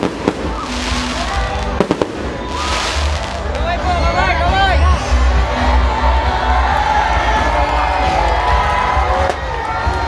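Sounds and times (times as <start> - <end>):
crowd cheering: 0.0 - 10.0.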